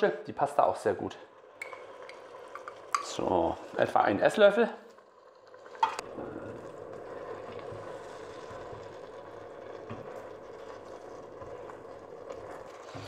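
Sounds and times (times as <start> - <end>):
pot bubbling on the boil: 0.2 - 13.0.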